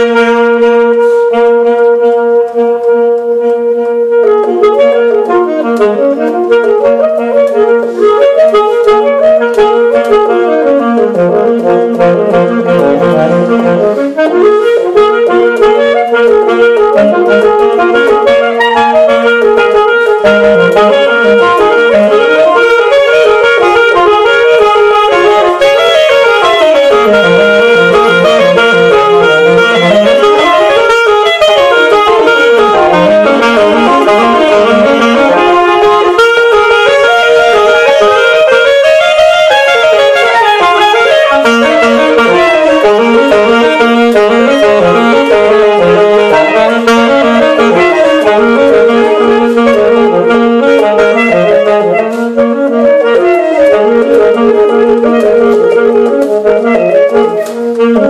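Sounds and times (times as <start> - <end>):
saxophone duet: 0.0 - 58.0.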